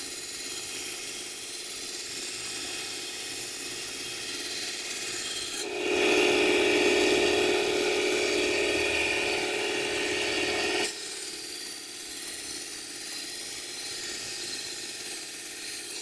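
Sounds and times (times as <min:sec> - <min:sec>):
belt grinder sharpening a knife: 0:00.0 - 0:16.0.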